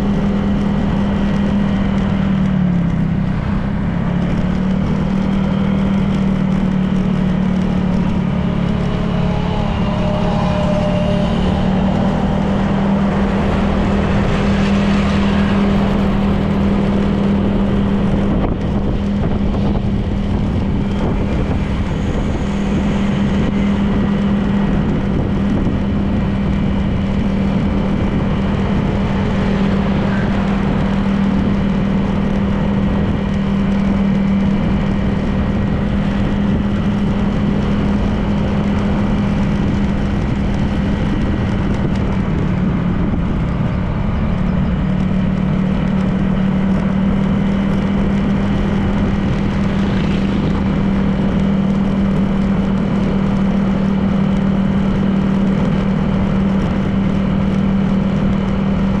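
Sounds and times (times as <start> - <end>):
scooter engine cruising: 0.0 - 59.0
wind and road noise: 0.0 - 59.0.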